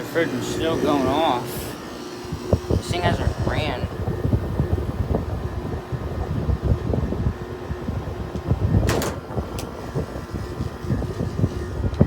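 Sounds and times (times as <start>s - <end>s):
refrigerant flowing: 0.0s - 6.3s, 7.4s - 12.0s
air conditioner low rumble: 0.0s - 12.0s.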